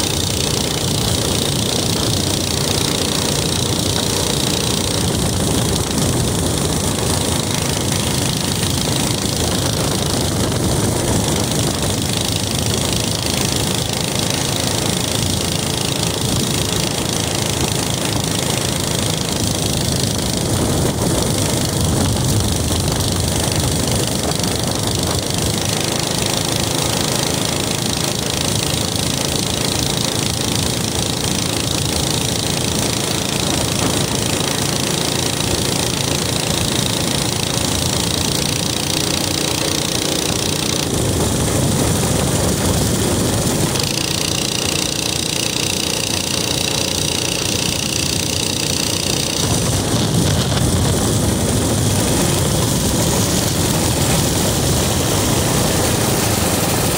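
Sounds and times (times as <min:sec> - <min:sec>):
small engine running: 0:00.0 - 0:56.9
wind and road noise: 0:00.0 - 0:56.9.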